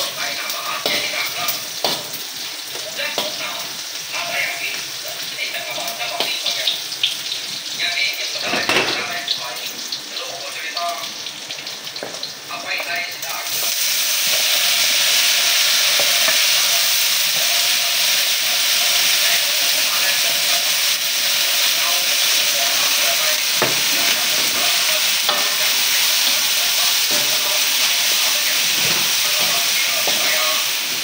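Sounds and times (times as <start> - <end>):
chives sizzling in hot oil: 0.0 - 31.0.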